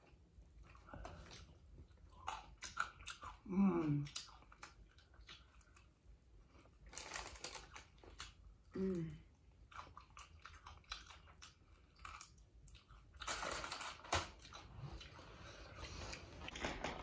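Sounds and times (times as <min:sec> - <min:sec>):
chewing and biting: 0:00.0 - 0:08.7, 0:09.5 - 0:16.3.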